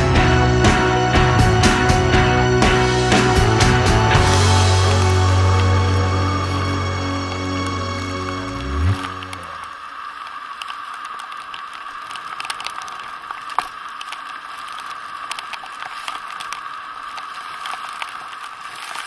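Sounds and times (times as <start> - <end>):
bicycle tyre hiss on wet road: 3.4 - 19.0.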